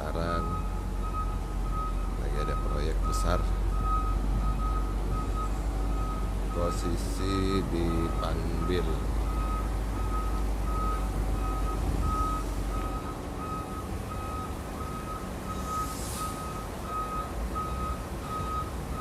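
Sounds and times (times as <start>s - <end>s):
diesel engine low rumble: 0.0s - 19.0s
truck reversing alarm beeping: 0.0s - 19.0s.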